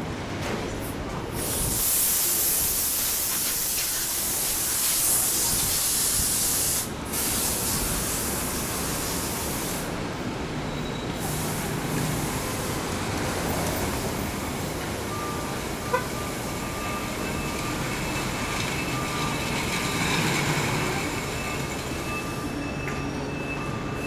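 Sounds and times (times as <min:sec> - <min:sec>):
loud street hiss: 0:00.0 - 0:24.0
traffic: 0:00.0 - 0:24.0.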